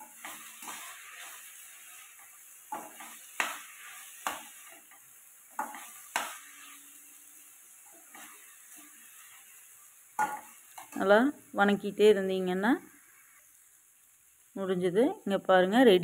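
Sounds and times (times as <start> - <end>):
faint sizzle: 0.0 - 16.0.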